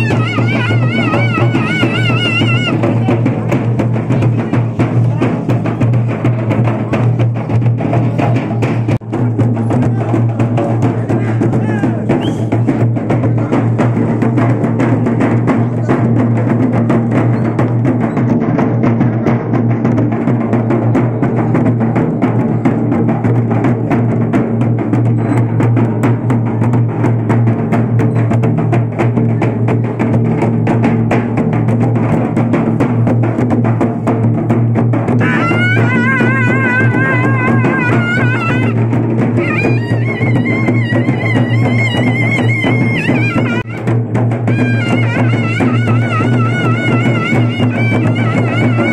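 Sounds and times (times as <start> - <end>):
procession drum beating: 0.0 - 48.9.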